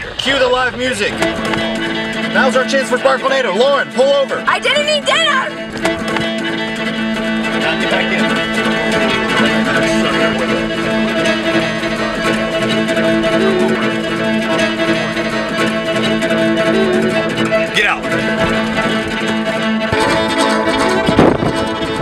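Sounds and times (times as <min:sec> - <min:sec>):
bowed fiddle: 0:00.0 - 0:22.0
other instruments playing: 0:00.5 - 0:22.0.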